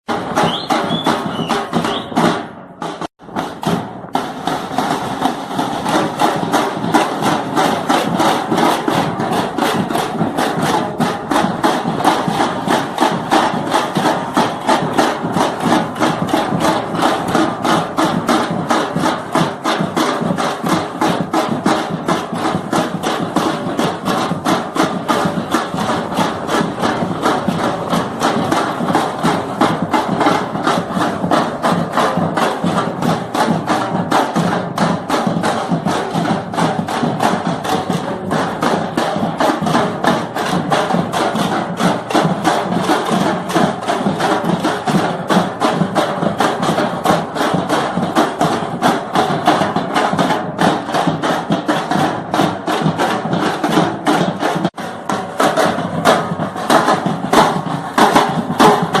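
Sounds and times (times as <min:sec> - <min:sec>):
percussion group drumming: 0:00.0 - 0:59.0.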